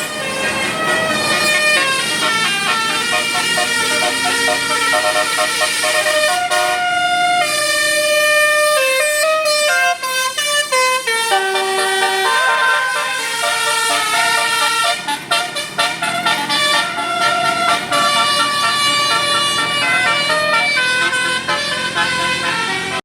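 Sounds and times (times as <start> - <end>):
multi-tone bus horn playing a tune: 0.0 - 23.0.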